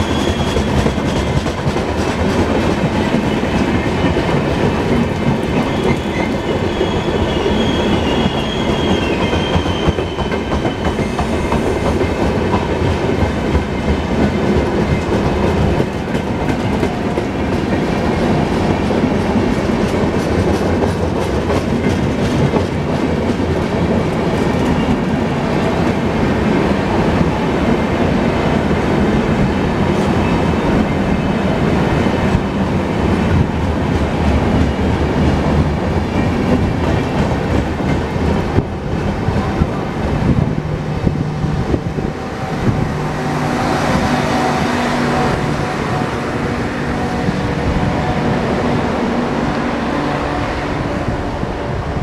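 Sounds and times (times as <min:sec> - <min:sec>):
train wheels clacking over rails: 0:00.0 - 0:50.4
train hum and hiss: 0:00.0 - 0:52.0.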